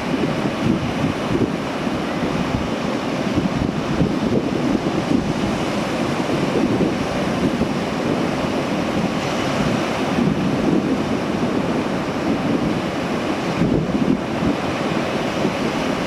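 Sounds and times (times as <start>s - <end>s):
sea waves rushing: 0.0s - 16.0s
wind buffeting microphone: 0.0s - 16.0s.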